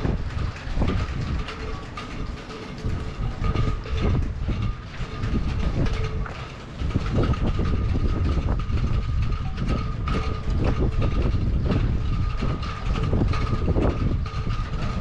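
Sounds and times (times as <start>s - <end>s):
gusty wind on microphone: 0.0s - 15.0s
scattered clicks and knocks: 0.0s - 15.0s.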